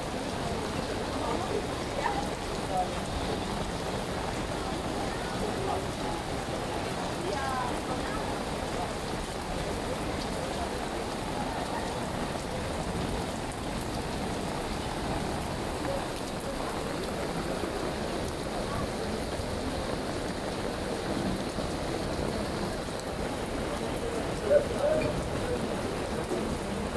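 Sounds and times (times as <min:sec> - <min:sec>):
rain on wet paving: 0:00.0 - 0:26.9.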